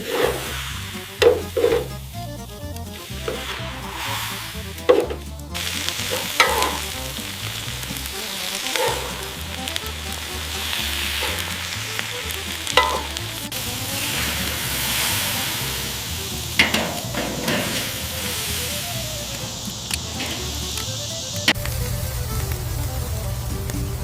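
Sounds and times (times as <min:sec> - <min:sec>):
background music with bass line: 0:00.0 - 0:24.0
food sizzling on a grill: 0:00.0 - 0:24.0.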